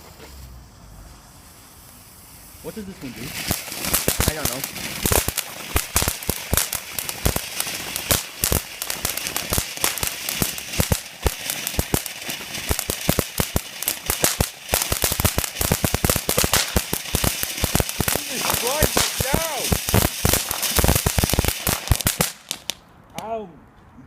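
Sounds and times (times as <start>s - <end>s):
firework cracks and pops: 0.0s - 23.3s.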